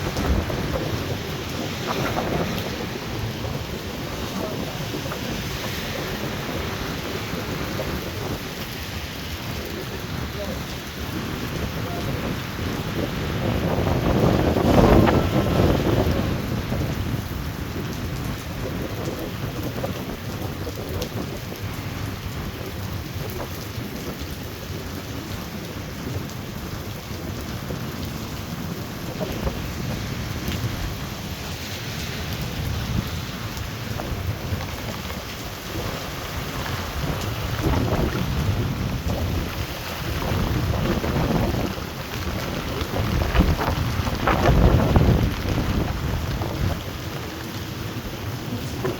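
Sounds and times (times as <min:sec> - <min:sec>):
heavy rain pouring: 0:00.0 - 0:48.9
wind rumble on microphone: 0:00.0 - 0:48.9.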